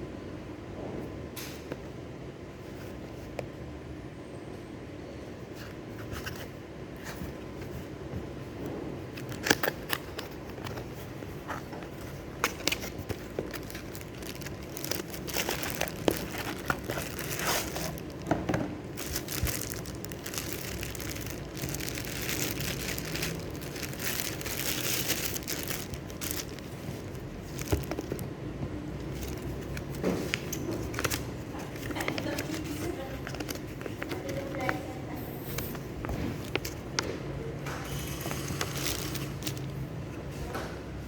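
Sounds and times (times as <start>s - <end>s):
packaging crinkling and rustling: 5.5s - 37.2s, 37.8s - 39.9s.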